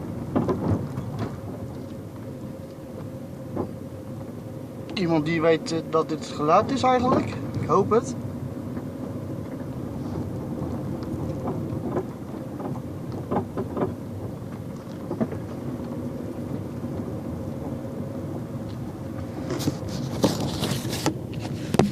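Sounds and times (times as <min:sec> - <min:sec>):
car engine rumble: 0:00.0 - 0:21.9
faint constant hum: 0:00.0 - 0:21.9.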